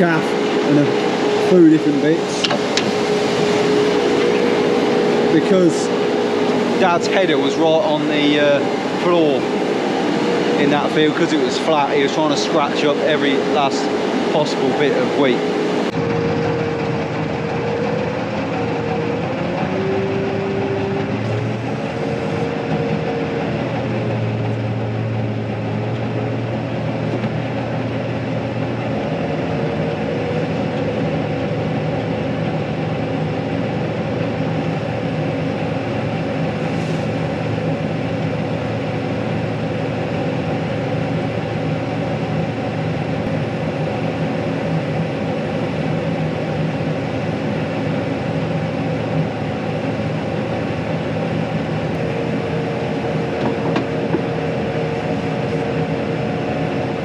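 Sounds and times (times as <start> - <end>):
heavy engine running under load: 0.0 - 57.0
wavering engine whine: 0.0 - 57.0.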